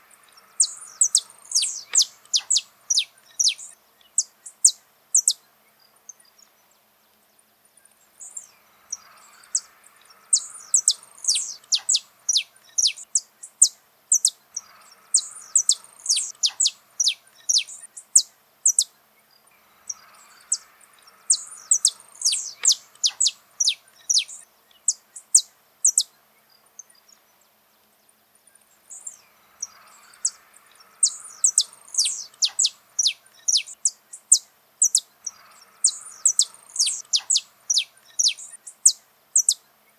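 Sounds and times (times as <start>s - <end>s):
finch singing high chirps: 0.3s - 5.4s, 8.2s - 19.0s, 19.8s - 27.4s, 28.5s - 39.9s.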